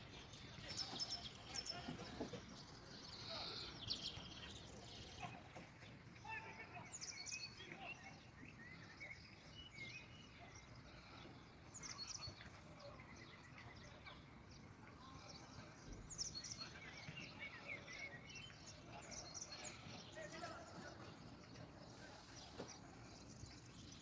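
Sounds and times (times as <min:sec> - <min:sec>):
faint birds chirping: 0:00.0 - 0:24.0
low steady background noise: 0:00.0 - 0:24.0.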